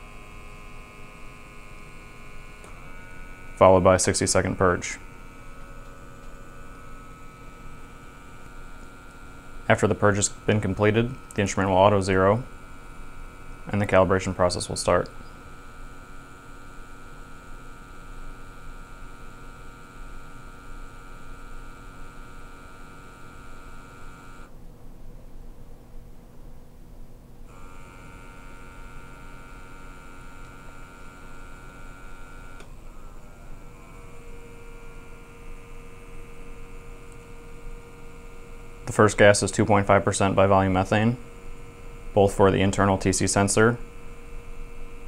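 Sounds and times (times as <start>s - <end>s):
small pump humming and whining: 0.0s - 45.0s.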